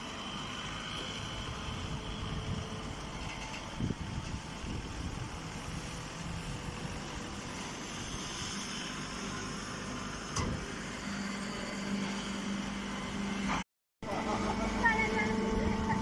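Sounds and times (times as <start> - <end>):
baling machinery running: 0.0 - 16.0.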